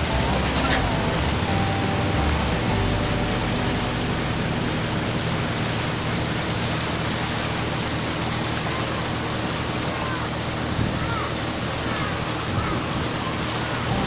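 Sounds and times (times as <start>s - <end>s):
low boat engine drone: 0.0s - 14.0s
water rushing: 0.0s - 14.0s
wind: 0.0s - 14.0s.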